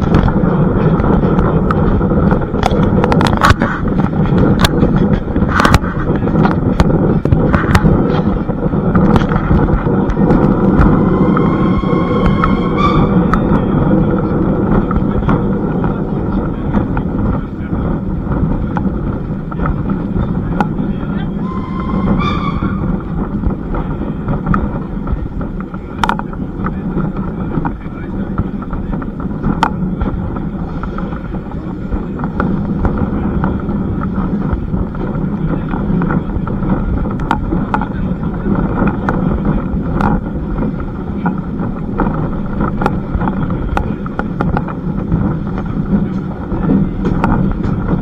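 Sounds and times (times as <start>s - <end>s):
train rumbling: 0.0s - 48.0s.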